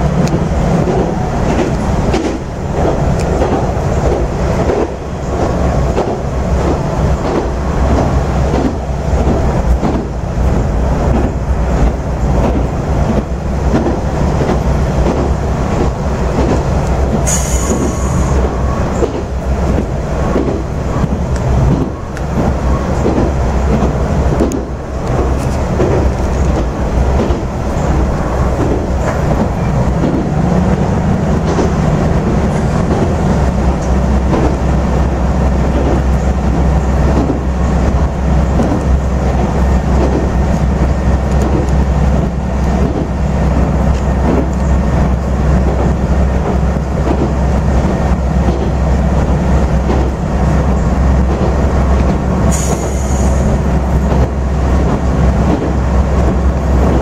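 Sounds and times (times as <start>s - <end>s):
low rumble of engine and wheels: 0.0s - 57.0s
wheels clicking over rail joints: 0.0s - 57.0s.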